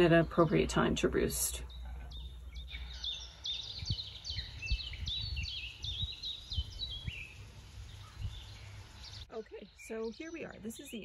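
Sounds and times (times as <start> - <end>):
songbird singing high notes: 1.6 - 11.0.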